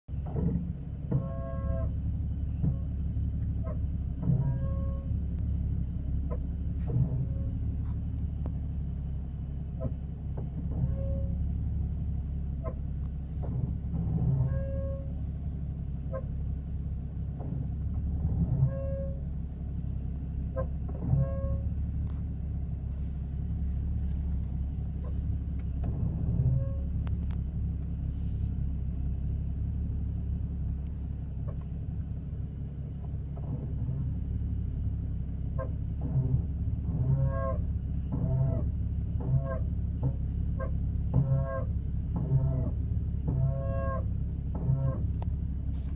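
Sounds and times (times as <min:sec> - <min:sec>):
car rolling rumble: 0:00.0 - 0:45.9
brakes squeaking: 0:00.1 - 0:45.9.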